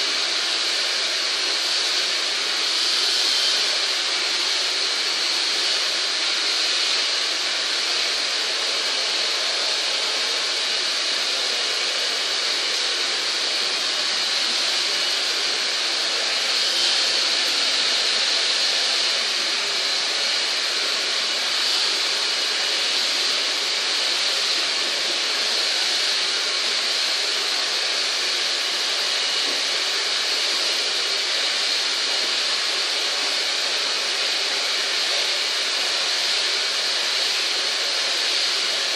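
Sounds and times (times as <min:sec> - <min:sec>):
motor blowing air: 0:00.0 - 0:38.9.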